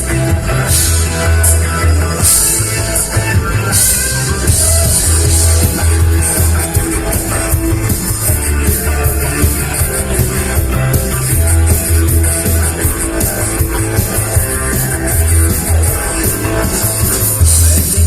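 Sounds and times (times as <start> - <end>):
bass guitar: 0.0 - 18.0
drum kit: 0.0 - 18.0
electric guitar: 0.0 - 18.0.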